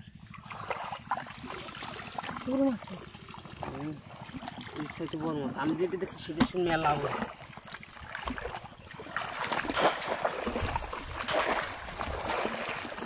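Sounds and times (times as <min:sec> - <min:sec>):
shallow water splashing: 0:00.1 - 0:13.0.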